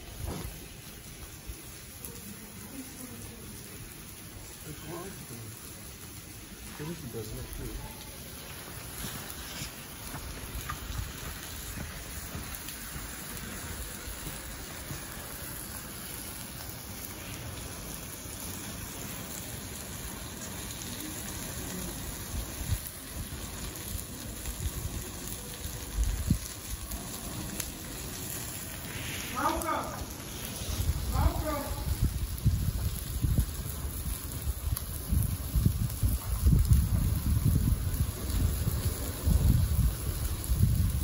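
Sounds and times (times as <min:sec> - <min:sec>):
fire crackling and hissing: 0:00.0 - 0:41.0.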